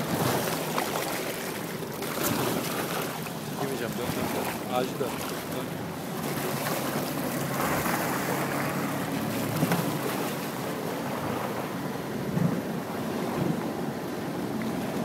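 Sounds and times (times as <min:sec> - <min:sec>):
boat engines humming: 0:00.0 - 0:15.0
water sloshing: 0:00.0 - 0:15.0.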